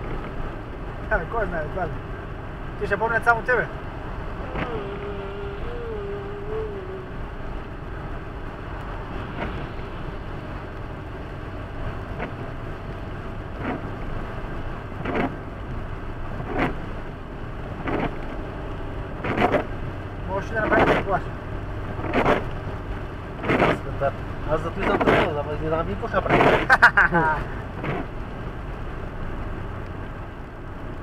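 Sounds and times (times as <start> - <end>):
car engine and road noise: 0.0 - 31.0
windshield wiper sweeping: 3.8 - 29.8.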